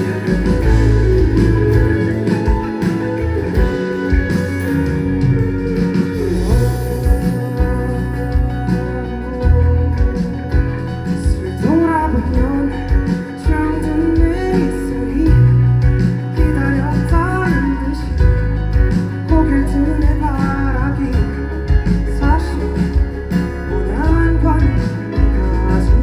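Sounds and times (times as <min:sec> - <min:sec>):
live pop band music: 0:00.0 - 0:26.0.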